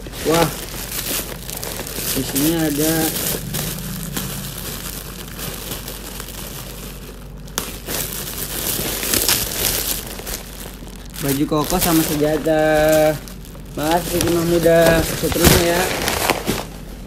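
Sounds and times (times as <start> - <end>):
plastic packaging rustling: 0.0 - 17.0.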